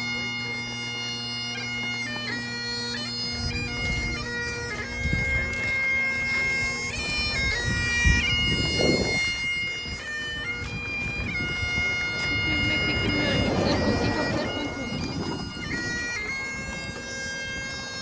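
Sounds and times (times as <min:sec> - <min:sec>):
bagpipes playing a tune: 0:00.0 - 0:18.0.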